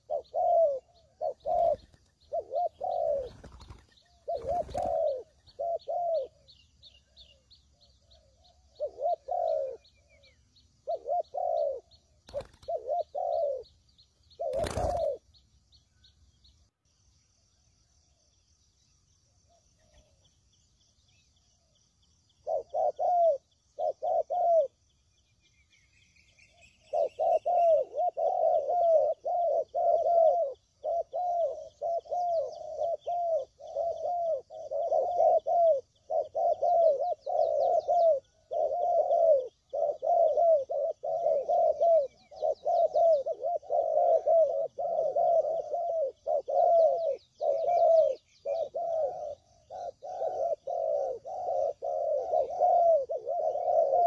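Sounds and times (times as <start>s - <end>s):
doves cooing: 0.0s - 15.4s, 22.4s - 24.8s, 26.4s - 54.0s
small birds chirping: 0.0s - 54.0s.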